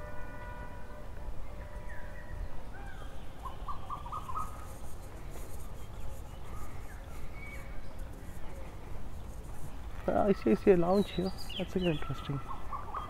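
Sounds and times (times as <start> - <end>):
birds calling: 2.0 - 13.0.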